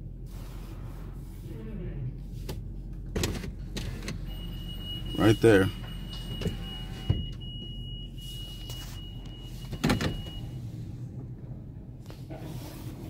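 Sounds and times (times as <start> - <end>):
car wash machinery low hum: 0.0 - 13.0.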